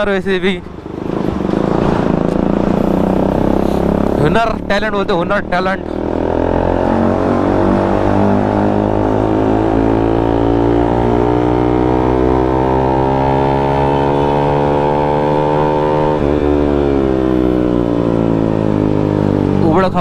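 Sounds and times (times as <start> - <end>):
motorcycle engine accelerating: 0.6 - 20.0.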